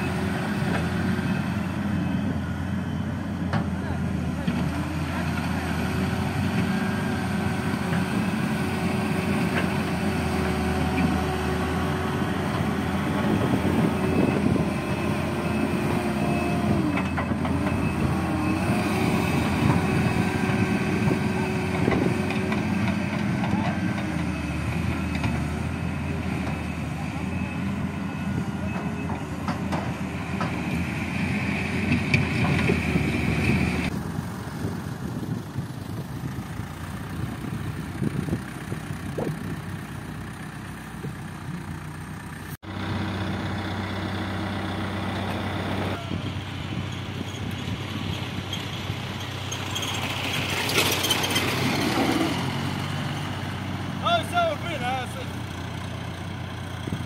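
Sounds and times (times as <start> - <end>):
heavy machinery diesel engines: 0.0 - 57.0
tractor engine running: 0.0 - 57.0.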